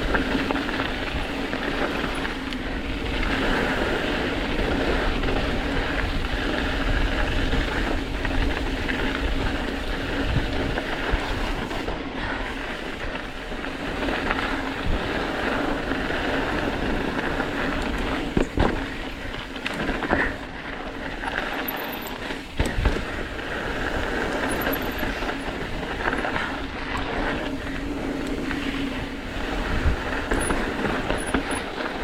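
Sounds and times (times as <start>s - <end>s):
bike rattling: 0.0s - 32.0s
bike tyre and wind rushing: 0.0s - 32.0s.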